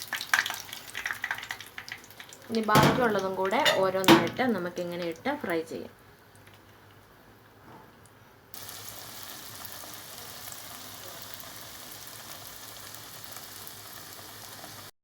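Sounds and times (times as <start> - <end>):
chicken sizzling in hot oil: 0.0 - 5.6, 8.5 - 14.9.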